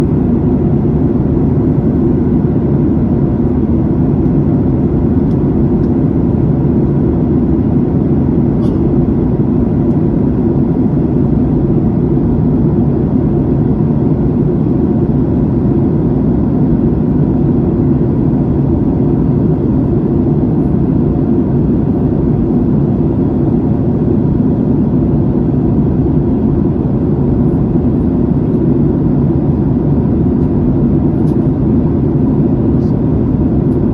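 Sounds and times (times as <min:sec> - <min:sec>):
aircraft cabin drone: 0:00.0 - 0:33.9.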